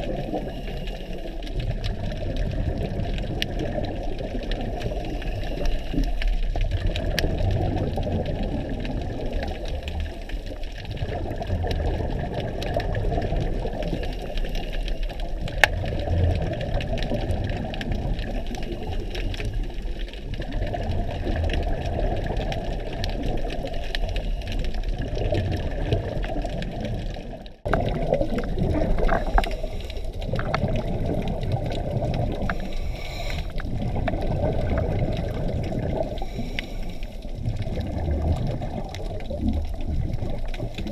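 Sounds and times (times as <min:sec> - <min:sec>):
muffled underwater rushing water: 0:00.0 - 0:40.9
regulator bubbles gurgling: 0:00.0 - 0:40.9.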